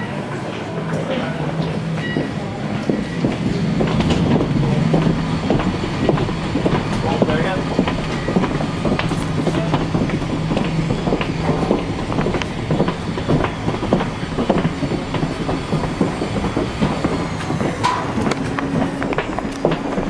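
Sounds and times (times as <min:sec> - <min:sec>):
footsteps on metal floor: 0:00.3 - 0:20.0
luggage clatter: 0:00.6 - 0:20.0
steady low hum: 0:01.1 - 0:20.0.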